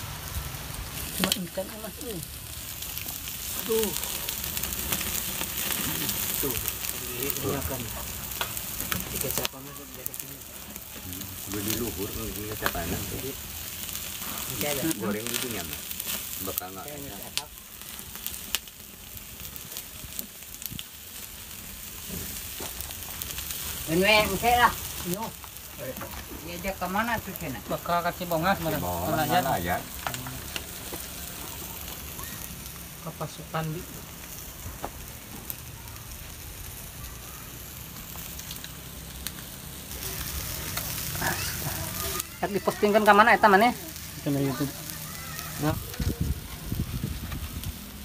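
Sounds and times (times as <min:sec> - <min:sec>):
fire crackling pops: 0:00.0 - 0:48.0
meat sizzling over embers: 0:00.0 - 0:48.0.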